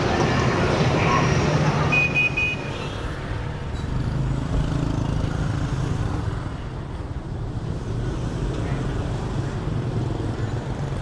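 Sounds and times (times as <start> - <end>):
scooters and cars running: 0.0 - 11.0.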